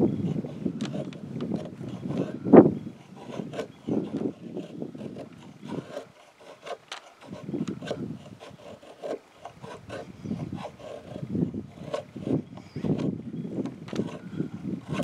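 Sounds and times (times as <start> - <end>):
knife scraping wood: 0.0 - 15.0.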